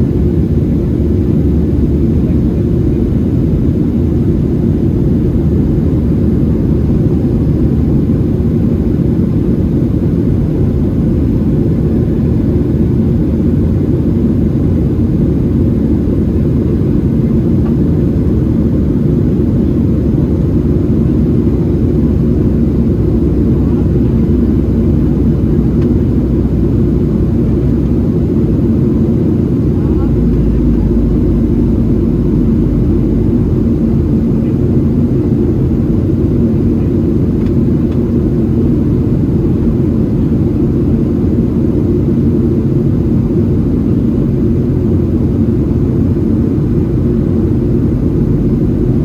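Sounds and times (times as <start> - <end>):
jet engine cabin drone: 0.0 - 49.0.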